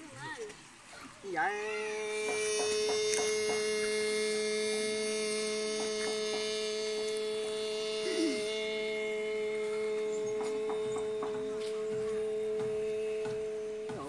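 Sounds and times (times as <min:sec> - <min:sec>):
pitched hum with overtones: 0:01.3 - 0:14.0.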